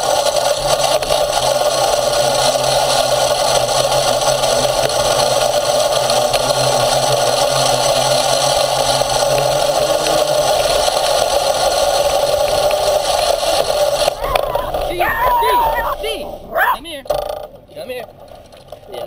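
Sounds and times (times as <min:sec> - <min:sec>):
electric skateboard motor running: 0:00.0 - 0:17.5
wheels rattling on rough dirt: 0:00.0 - 0:19.0.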